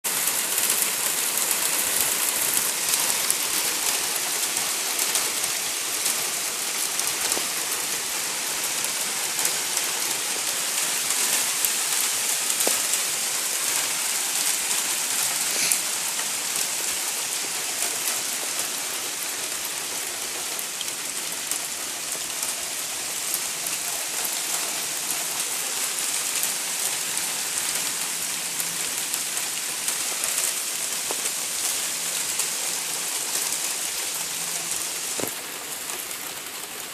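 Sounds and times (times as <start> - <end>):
hail falling hard: 0.0 - 36.9.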